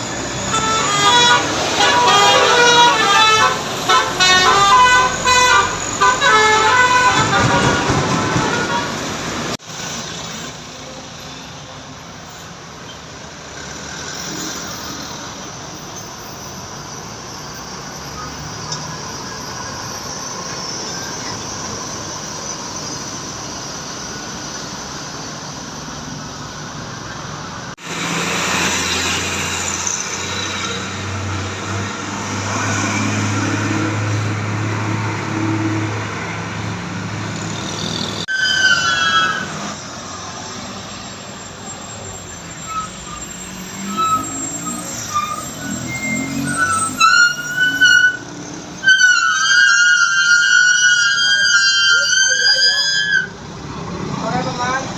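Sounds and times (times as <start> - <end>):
bus engine humming: 0.0 - 54.9
vehicles passing on road: 0.0 - 54.9.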